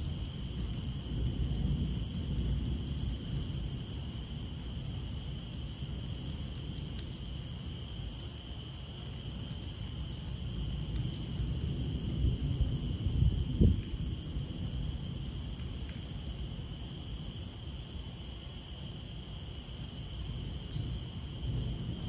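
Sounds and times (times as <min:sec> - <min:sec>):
crickets chirring: 0:00.0 - 0:22.0
faint rain hiss: 0:00.0 - 0:22.0.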